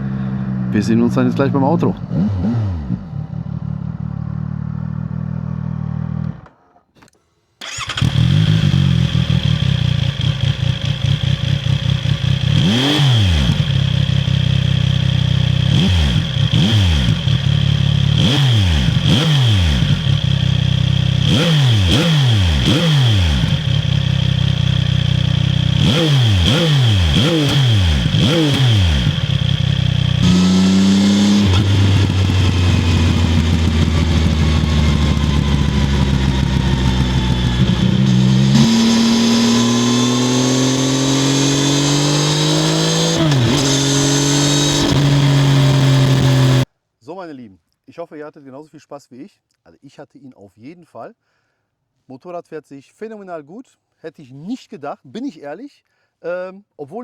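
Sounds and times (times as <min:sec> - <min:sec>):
motorcycle engine revving: 0:00.0 - 0:46.7.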